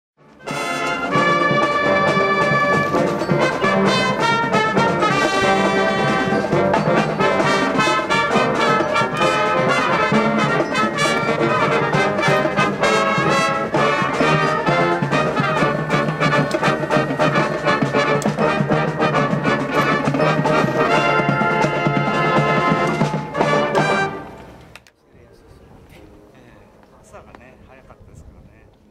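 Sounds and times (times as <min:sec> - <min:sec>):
brass band playing: 0:00.2 - 0:24.6.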